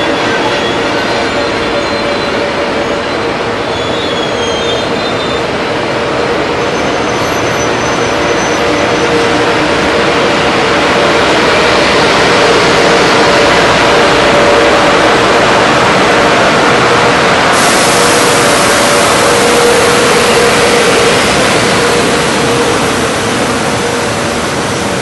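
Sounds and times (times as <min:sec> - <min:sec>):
freight train wheels rumbling on rail: 0:00.0 - 0:25.0
locomotive hum: 0:00.0 - 0:25.0.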